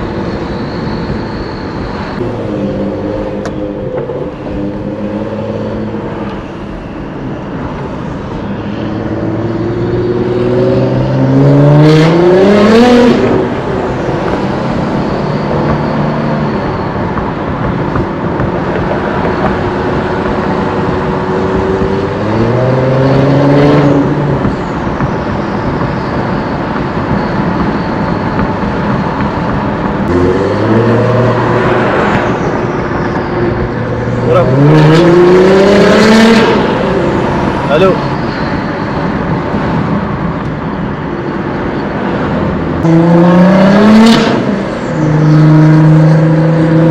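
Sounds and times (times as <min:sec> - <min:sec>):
car engine accelerating: 0:01.9 - 0:41.0, 0:41.6 - 0:46.9.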